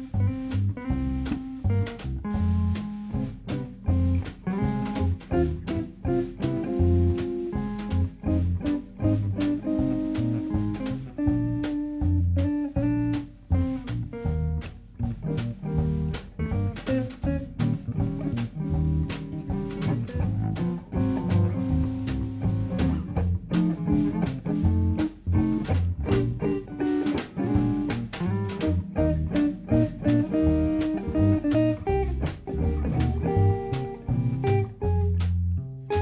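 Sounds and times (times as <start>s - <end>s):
bass line: 0.0s - 36.0s
drums steady beat: 0.0s - 36.0s
plucked guitar: 0.0s - 36.0s.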